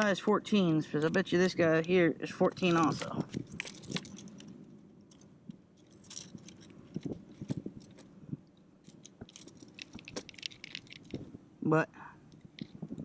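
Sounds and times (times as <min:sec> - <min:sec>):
hands handling fish and lure: 0:00.8 - 0:11.4.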